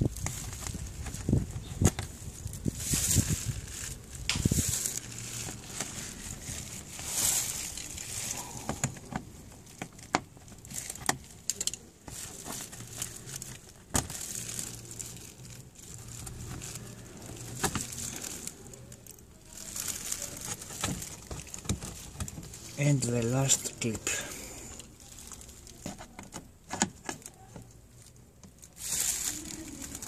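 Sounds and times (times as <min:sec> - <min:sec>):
rustling and handling noise: 0:00.0 - 0:30.0.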